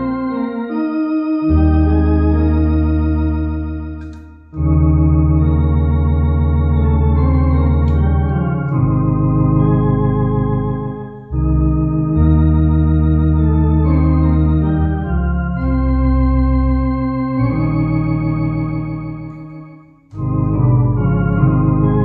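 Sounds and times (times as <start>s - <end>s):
electronic organ playing a hymn: 0.0s - 22.0s.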